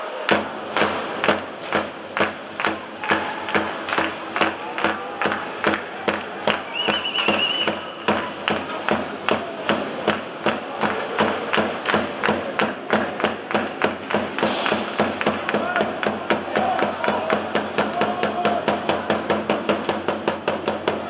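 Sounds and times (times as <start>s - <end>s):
crowd voices: 0.0s - 21.0s
drum beating fast rhythm: 0.3s - 21.0s.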